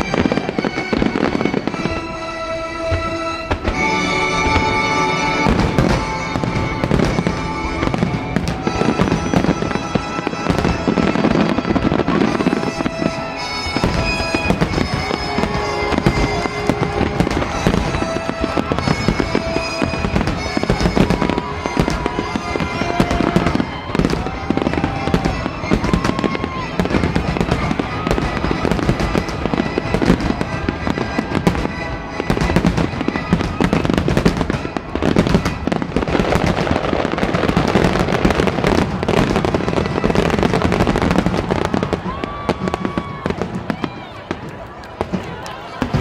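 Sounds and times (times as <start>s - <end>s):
fireworks bursting: 0.0s - 46.0s
music playing: 0.0s - 46.0s.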